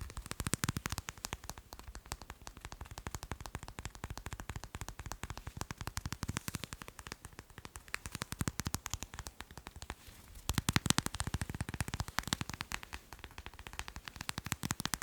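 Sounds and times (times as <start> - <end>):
fast light tapping: 0.0 - 15.0.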